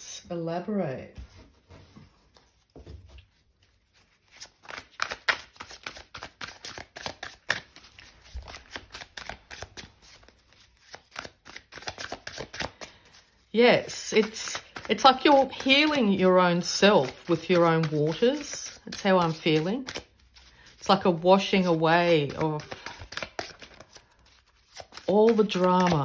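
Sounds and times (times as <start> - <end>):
cards being shuffled: 2.4 - 26.0.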